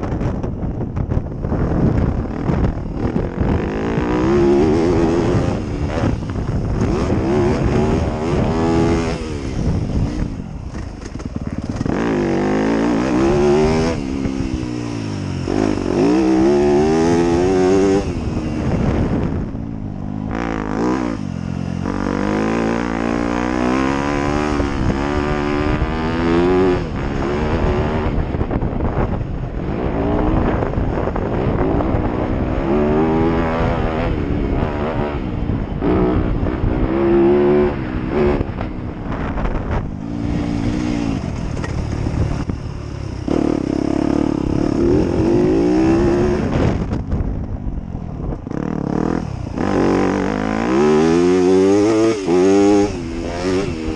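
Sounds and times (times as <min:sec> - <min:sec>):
dirt bike engine revving: 0:01.6 - 0:28.4, 0:29.0 - 0:47.1, 0:48.5 - 0:53.9.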